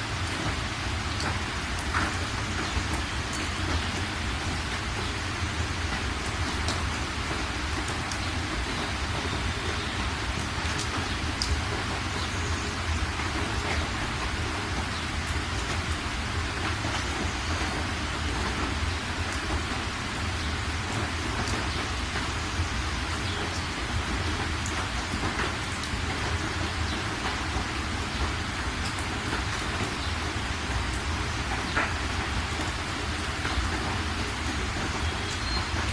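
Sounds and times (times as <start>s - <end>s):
sharp raindrop ticks: 0.0s - 35.9s
steady rain falling: 0.0s - 35.9s.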